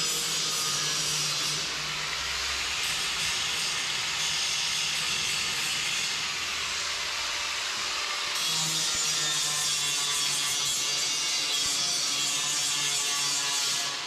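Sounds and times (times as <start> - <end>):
power grinder abrasive hiss: 0.0 - 14.0.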